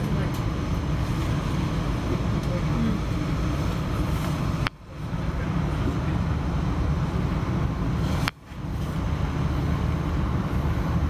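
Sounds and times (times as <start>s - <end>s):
train rumbling on board: 0.0s - 11.0s.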